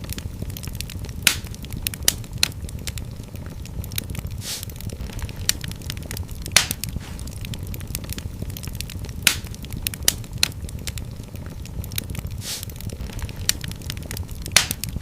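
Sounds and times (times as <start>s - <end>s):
fire hissing: 0.0s - 15.0s
low rumble of flames: 0.0s - 15.0s
wood fire crackling and popping: 0.0s - 15.0s.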